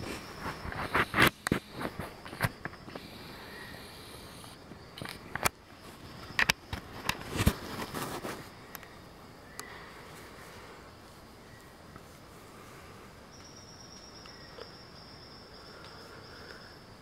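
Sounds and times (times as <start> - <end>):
faint forest background: 0.0 - 17.0.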